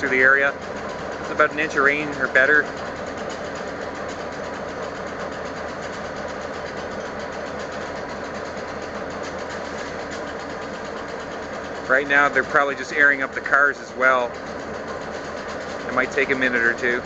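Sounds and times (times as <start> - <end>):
diesel locomotives idling: 0.0 - 17.0.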